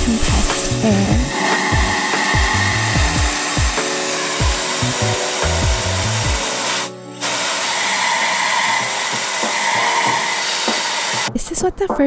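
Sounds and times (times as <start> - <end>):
compressed air hissing: 0.0 - 11.3.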